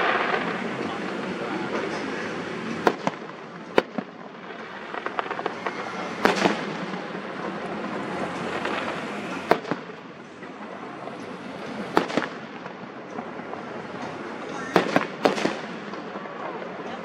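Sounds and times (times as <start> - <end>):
fireworks bangs: 0.0 - 17.0
small fireworks crackles: 0.0 - 17.0.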